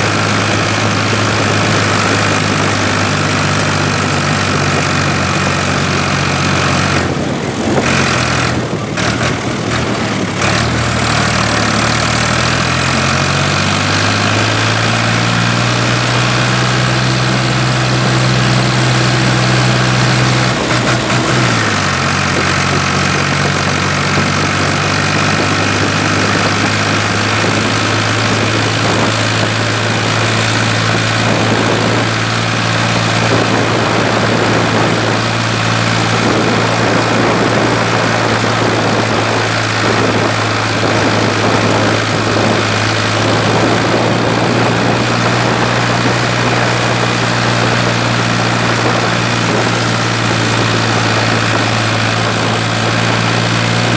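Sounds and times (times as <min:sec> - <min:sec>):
tractor engine drone: 0:00.0 - 0:53.9.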